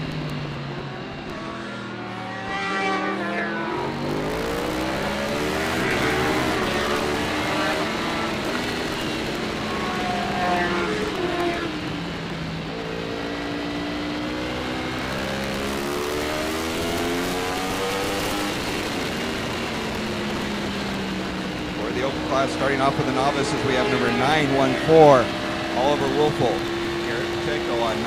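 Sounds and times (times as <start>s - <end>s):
racing motorcycle engine: 0.0s - 28.0s.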